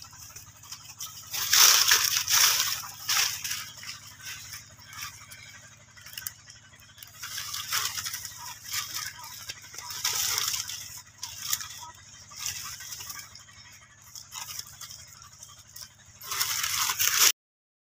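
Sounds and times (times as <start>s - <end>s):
dry leaves rustling and crackling: 0.0s - 17.3s.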